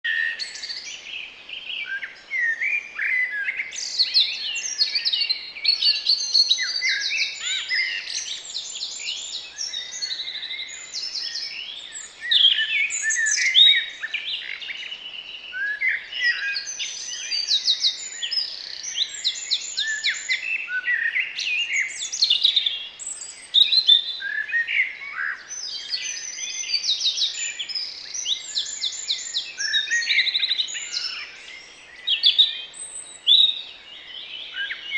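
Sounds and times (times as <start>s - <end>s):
garden birds singing: 0.0s - 34.9s.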